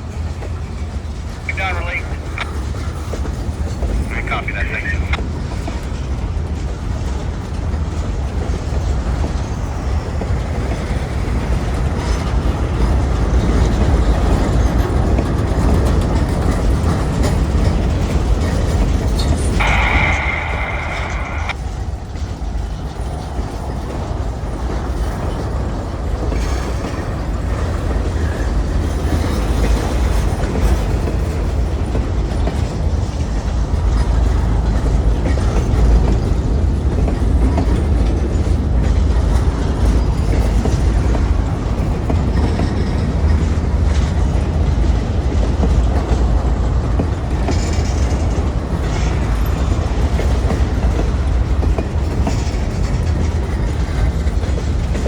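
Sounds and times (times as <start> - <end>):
freight train rumbling: 0.0 - 55.0
wheels clicking over rail joints: 5.1 - 19.6, 22.0 - 55.0.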